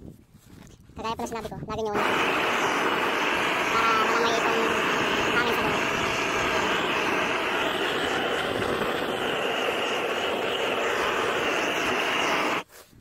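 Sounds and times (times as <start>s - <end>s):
gas torch burning: 2.0s - 12.7s.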